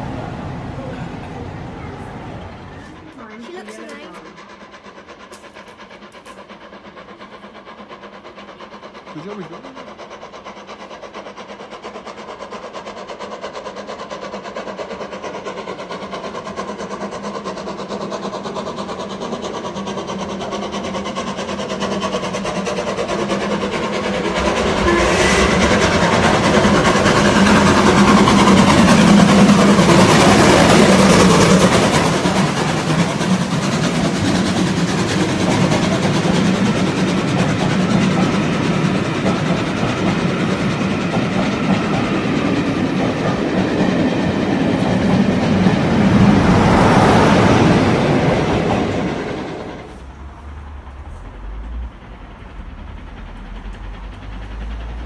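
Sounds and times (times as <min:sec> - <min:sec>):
coaches rolling on rails: 0:00.0 - 0:55.0
steam locomotive passing: 0:00.0 - 0:55.0.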